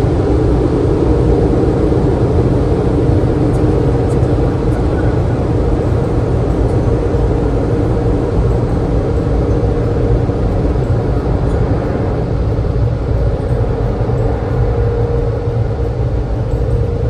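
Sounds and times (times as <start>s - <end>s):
loud mechanical rumble and hum: 0.0s - 17.0s.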